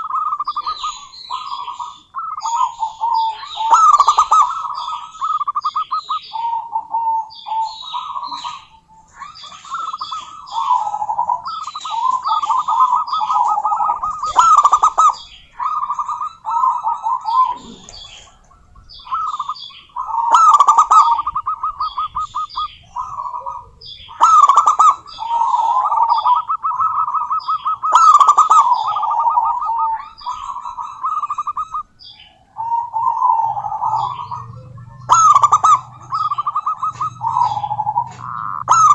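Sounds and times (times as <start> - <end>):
doves cooing trills: 0.0 - 38.9.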